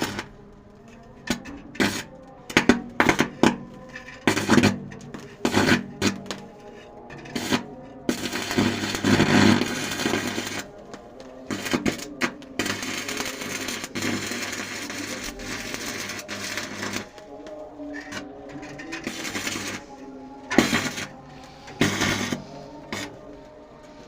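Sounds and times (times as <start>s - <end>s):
arc welding crackling hiss: 0.0s - 24.0s.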